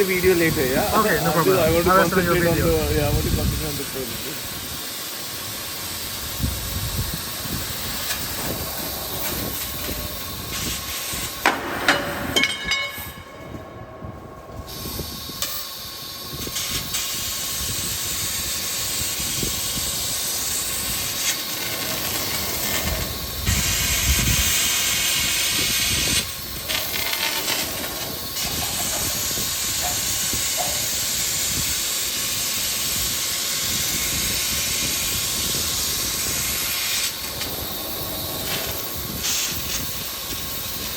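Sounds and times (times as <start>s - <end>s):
laser cutter hissing: 0.0s - 11.6s, 14.2s - 40.9s
machine noise: 0.0s - 40.9s.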